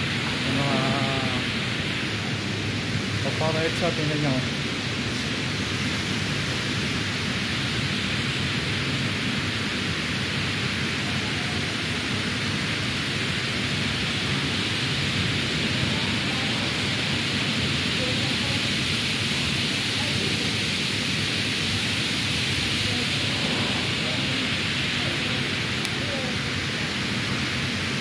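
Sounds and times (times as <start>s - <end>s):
water rushing down a wall: 0.0s - 28.0s.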